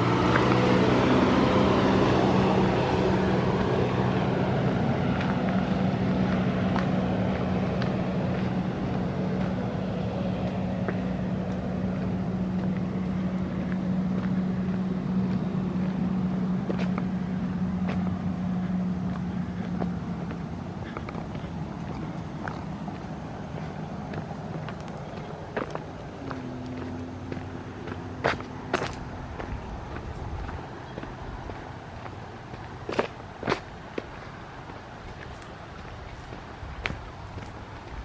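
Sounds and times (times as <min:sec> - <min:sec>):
jet ski engine droning: 0:00.0 - 0:38.0.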